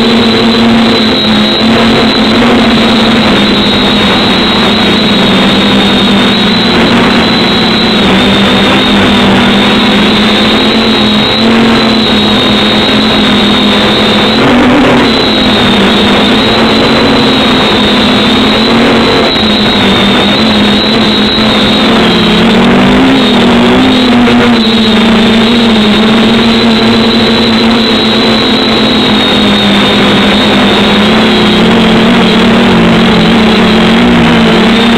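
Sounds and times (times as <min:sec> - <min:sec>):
quadcopter propellers buzzing: 0:00.0 - 0:34.9.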